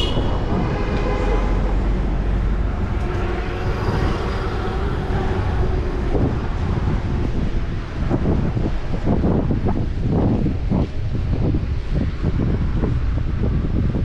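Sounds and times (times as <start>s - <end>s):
city traffic noise: 0.0s - 14.0s
wind rushing over microphone: 0.0s - 14.0s.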